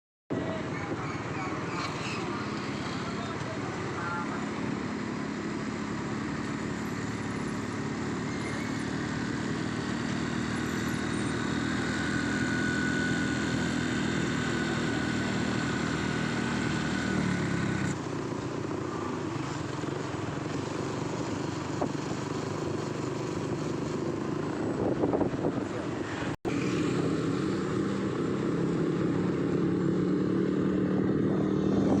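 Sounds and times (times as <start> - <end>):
road traffic noise: 0.3 - 32.0
motorcycle engine running: 1.8 - 32.0.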